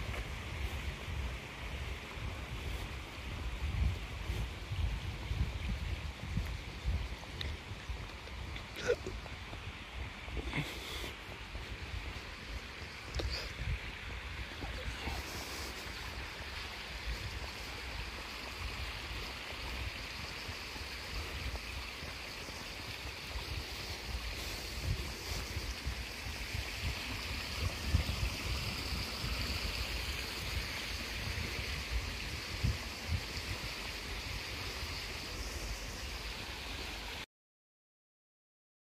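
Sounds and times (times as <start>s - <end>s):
stream rushing over rocks: 0.0s - 37.3s.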